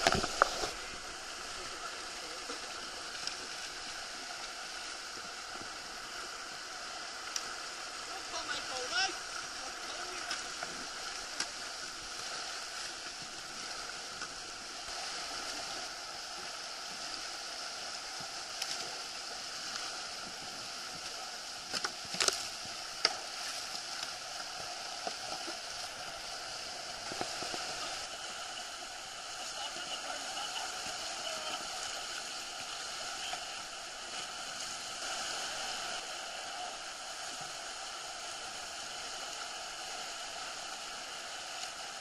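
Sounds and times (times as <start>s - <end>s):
whitewater rushing: 0.0s - 42.0s.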